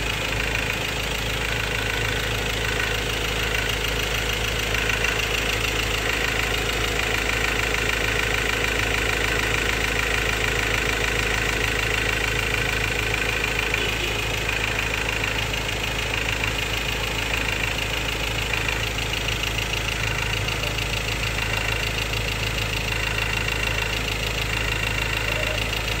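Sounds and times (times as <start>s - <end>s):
diesel engine idling with knock: 0.0s - 26.0s.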